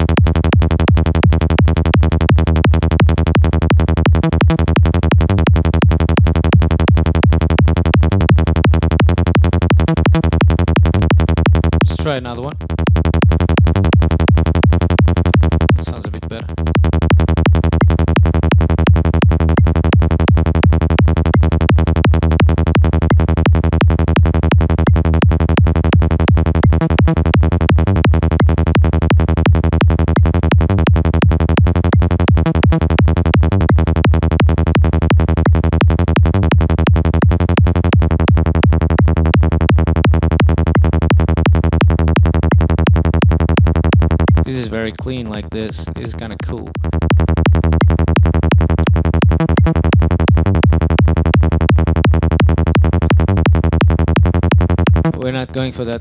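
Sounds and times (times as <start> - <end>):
distorted synth bass line: 0.0 - 56.0.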